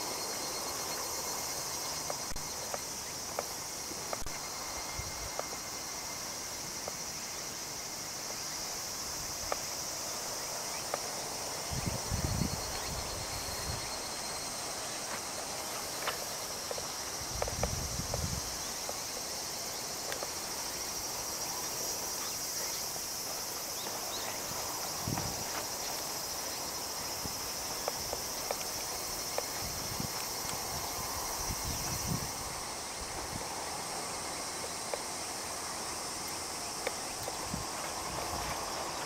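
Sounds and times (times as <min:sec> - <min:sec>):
insects chorus: 0:00.0 - 0:39.0.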